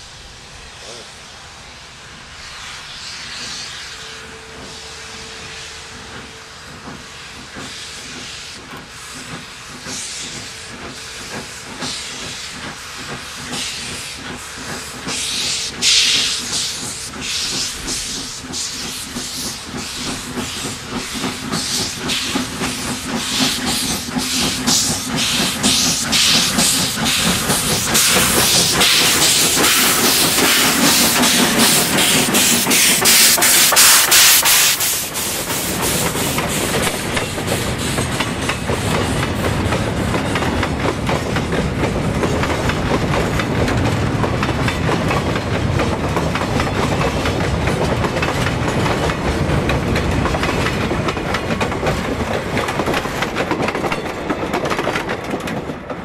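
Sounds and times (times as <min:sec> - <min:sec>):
loud steam hiss: 0:00.0 - 0:54.7
steam locomotive chuffing: 0:00.0 - 0:56.0.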